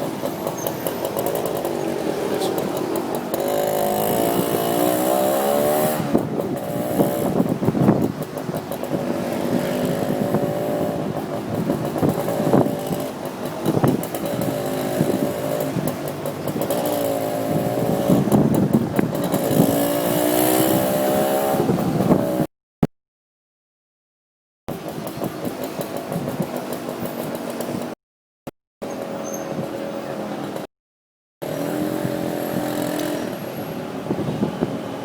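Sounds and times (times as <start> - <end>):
motorcycle engine accelerating: 0.0 - 22.5, 24.7 - 28.0, 31.4 - 35.0
road and traffic noise: 0.0 - 22.5, 24.7 - 28.0, 28.8 - 30.7, 31.4 - 35.0.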